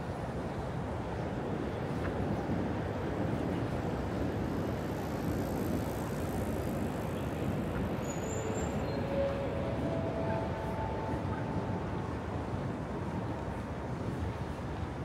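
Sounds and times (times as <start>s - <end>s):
road traffic hum: 2.6s - 15.0s.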